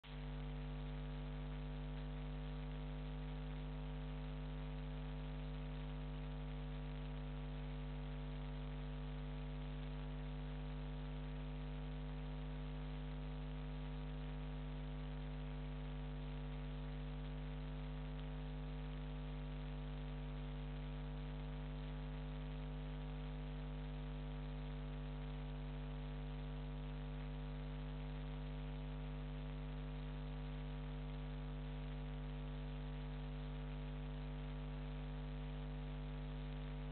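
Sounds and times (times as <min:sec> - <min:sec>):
electrical mains hum: 0:00.0 - 0:36.9.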